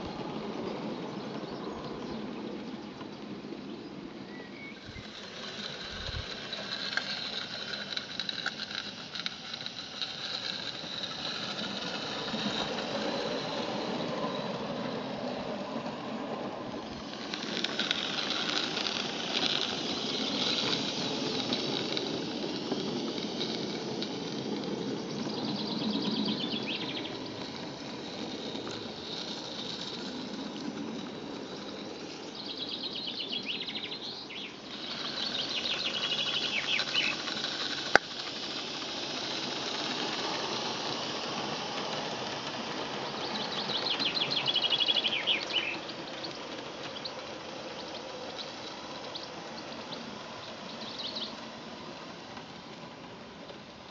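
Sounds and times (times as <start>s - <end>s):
model steam locomotive exhaust beat: 0.0s - 53.9s
steam hiss: 0.0s - 53.9s.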